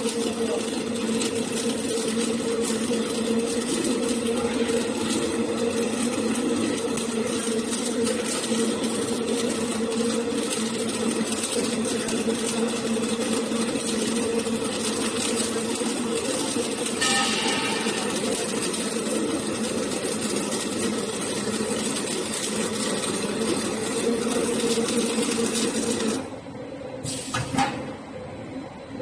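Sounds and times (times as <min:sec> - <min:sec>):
welding machine humming: 0:00.0 - 0:28.5.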